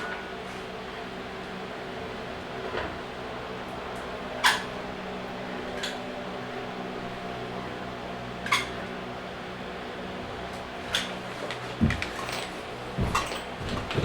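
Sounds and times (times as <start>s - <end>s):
mechanical fan hum: 0.0s - 14.0s.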